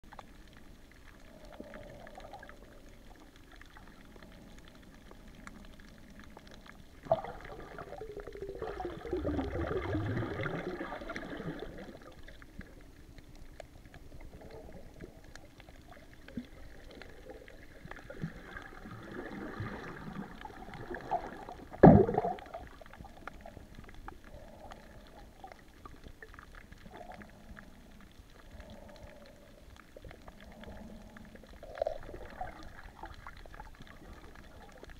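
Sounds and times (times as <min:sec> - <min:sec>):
underwater gurgling: 0:00.0 - 0:34.9
underwater water movement: 0:00.0 - 0:34.9.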